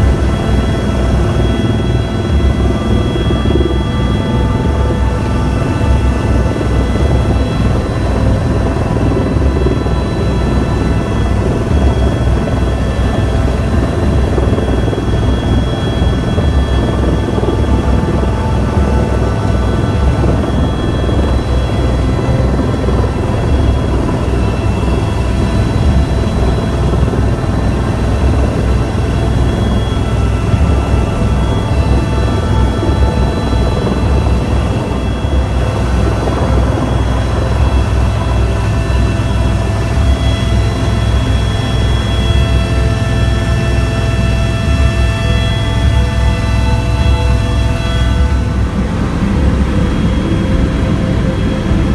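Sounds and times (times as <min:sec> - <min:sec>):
helicopter rotor throb: 0:00.0 - 0:51.9
high turbine whine: 0:00.0 - 0:51.9.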